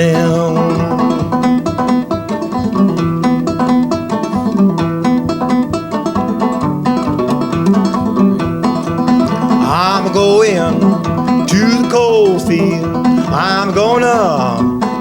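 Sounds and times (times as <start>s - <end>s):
banjo picking: 0.0s - 15.0s.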